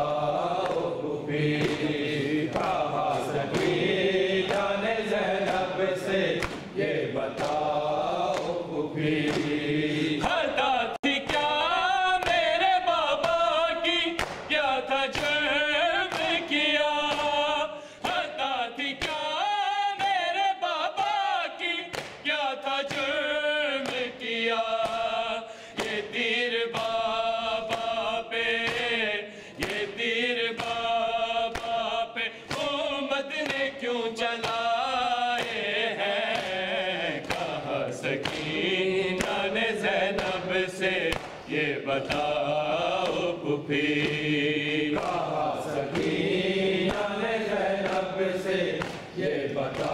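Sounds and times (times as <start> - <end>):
men chanting together: 0.0 - 49.9.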